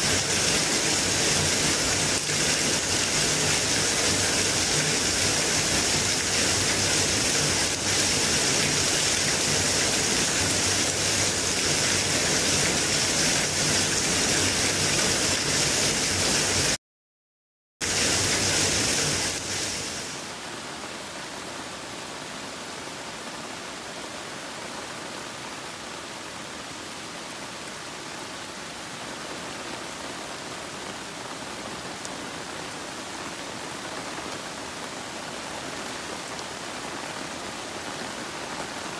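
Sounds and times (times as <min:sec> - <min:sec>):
heavy rain on leaves: 0:00.0 - 0:16.8, 0:17.8 - 0:38.9
light rain on large leaves: 0:00.0 - 0:16.8, 0:17.8 - 0:38.9.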